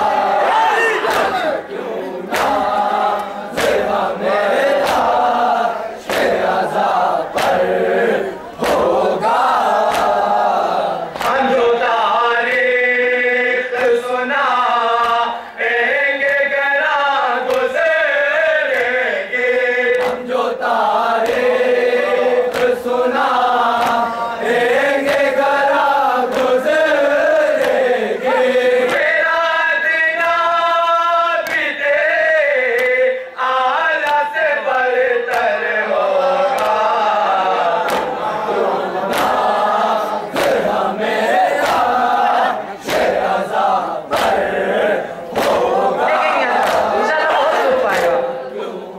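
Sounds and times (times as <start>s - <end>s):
men chanting a lament: 0.0s - 48.9s.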